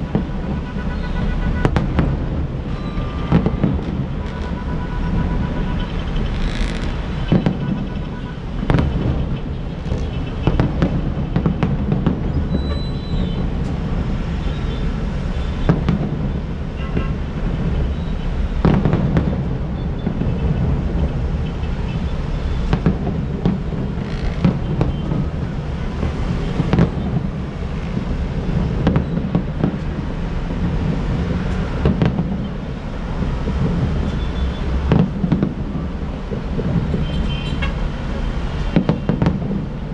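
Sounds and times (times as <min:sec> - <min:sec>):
distant fireworks booming: 0:00.0 - 0:39.9.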